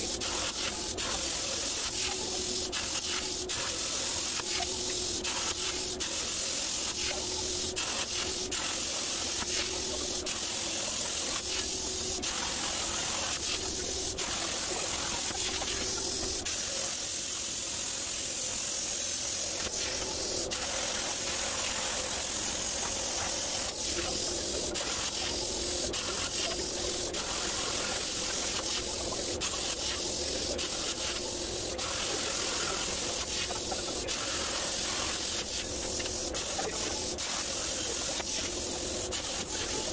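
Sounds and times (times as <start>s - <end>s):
plasma cutter hissing: 0.0s - 39.9s.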